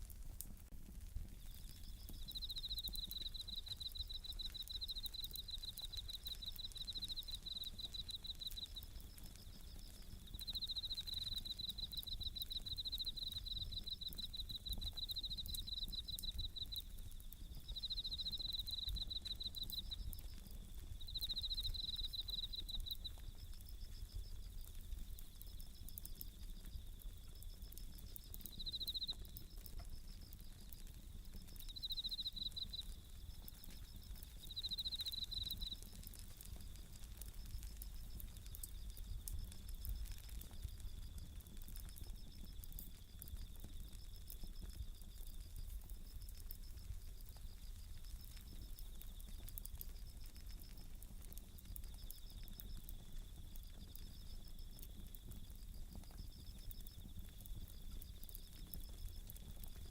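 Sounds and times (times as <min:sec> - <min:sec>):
campfire crackling: 0:00.0 - 0:59.9
crickets trilling: 0:00.9 - 0:59.9.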